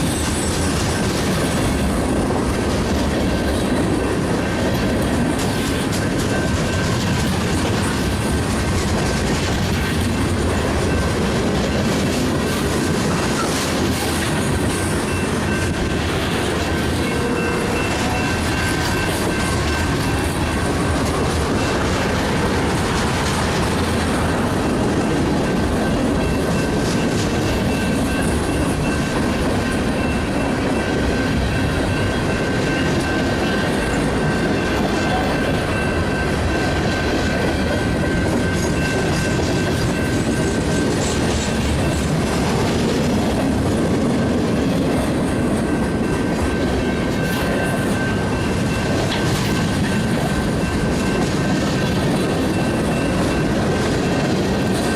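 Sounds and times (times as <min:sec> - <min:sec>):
wheels clicking over rail joints: 0:00.0 - 0:54.9.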